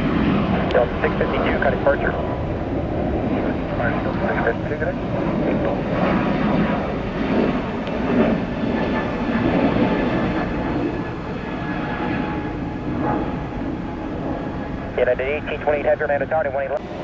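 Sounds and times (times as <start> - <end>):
jet airliner engine rumble: 0.0 - 17.0.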